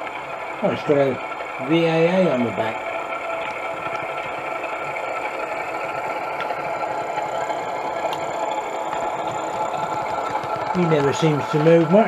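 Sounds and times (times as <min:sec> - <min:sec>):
diesel engine sound from small speaker: 0:00.0 - 0:12.0.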